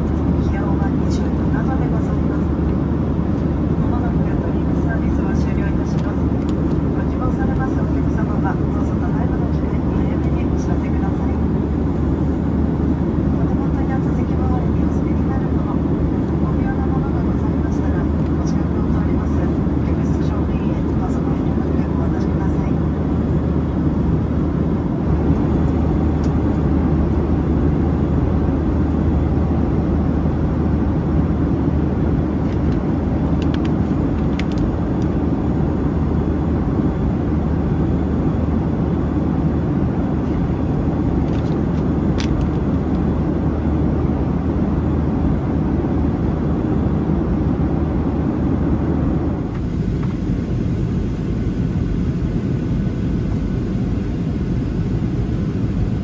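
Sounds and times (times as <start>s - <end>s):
jet engine rumble in cabin: 0.0s - 56.0s.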